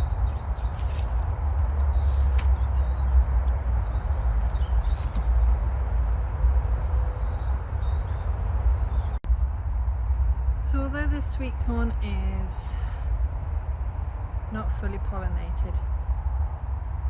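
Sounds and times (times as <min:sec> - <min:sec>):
small birds chirping: 0:00.0 - 0:09.2, 0:09.8 - 0:14.8
steady low rumble: 0:00.0 - 0:17.0.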